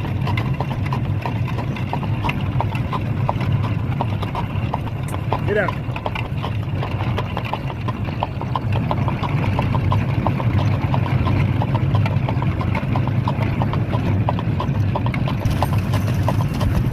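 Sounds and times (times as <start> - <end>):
hooves clip-clopping on hard surface: 0.0 - 16.9.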